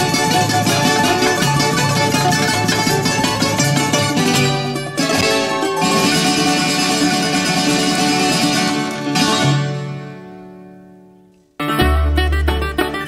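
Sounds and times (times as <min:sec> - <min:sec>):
plucked bouzouki instrumental music: 0:00.0 - 0:13.0.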